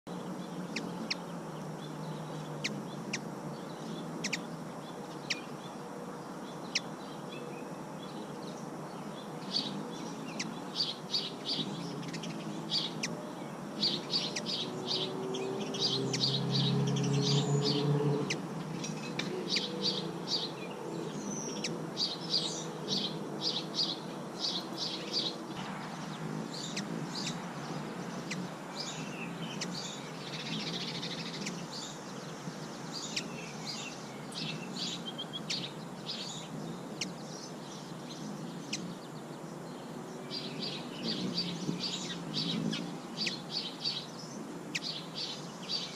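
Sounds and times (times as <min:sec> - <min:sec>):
low drone: 0:00.1 - 0:45.7
small birds chirping: 0:00.1 - 0:45.9.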